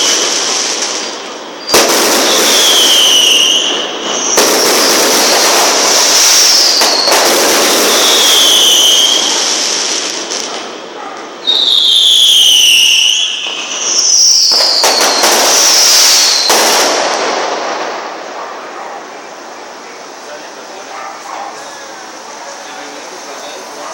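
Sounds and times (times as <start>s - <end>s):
falling firework whistles: 0.0s - 23.9s
firework crackles and bangs: 0.0s - 23.9s
steady firework hiss: 0.0s - 23.9s.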